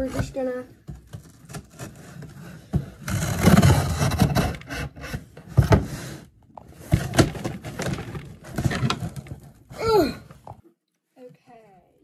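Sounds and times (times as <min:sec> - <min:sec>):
cardboard rubbing: 0:00.0 - 0:09.8.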